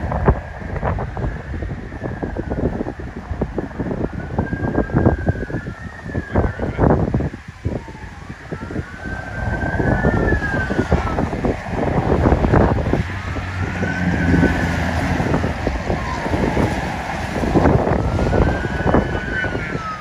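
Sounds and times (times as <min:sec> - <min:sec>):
siren wailing: 0:00.0 - 0:20.0
wind buffeting microphone: 0:00.0 - 0:20.0.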